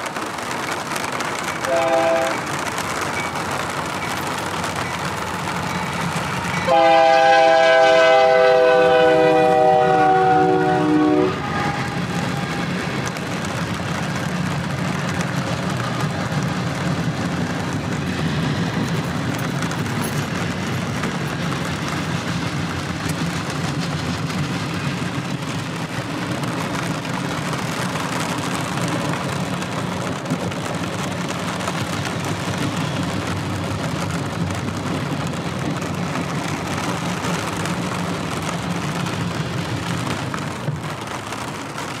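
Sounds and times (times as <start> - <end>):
freight train wheels on rail: 0.0 - 42.0
rain falling: 0.0 - 42.0.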